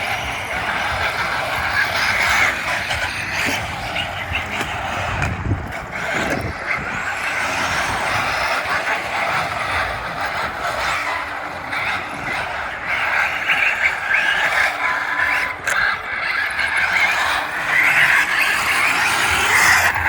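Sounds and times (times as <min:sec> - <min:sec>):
rc cars motor and tyre noise: 0:00.0 - 0:20.0.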